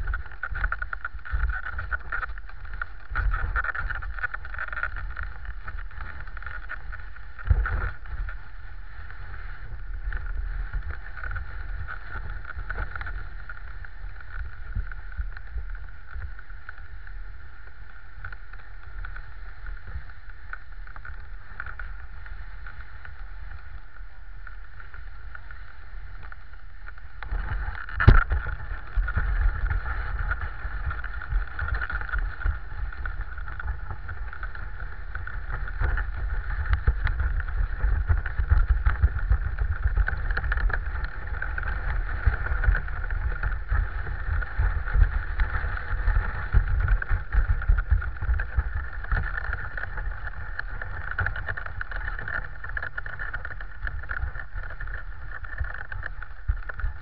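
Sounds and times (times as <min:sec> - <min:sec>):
low uneven rumble: 0:00.0 - 0:57.0.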